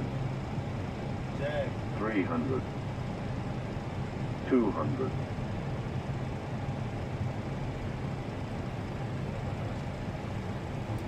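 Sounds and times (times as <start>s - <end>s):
airliner engine rumble: 0.0s - 11.0s.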